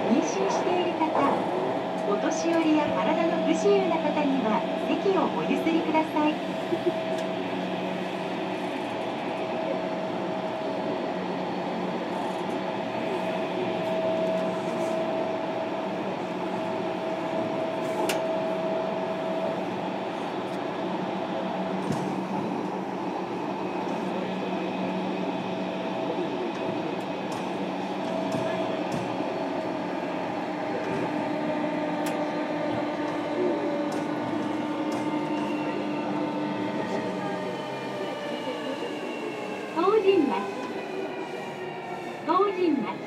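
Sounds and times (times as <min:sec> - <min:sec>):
wheels rumbling on rail: 0:00.0 - 0:43.0.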